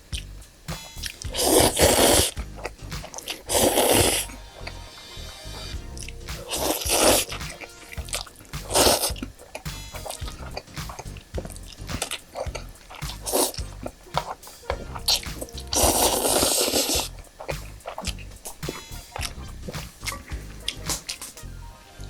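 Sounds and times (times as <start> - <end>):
person chewing: 0.1 - 21.4
loud slurping: 0.8 - 21.4.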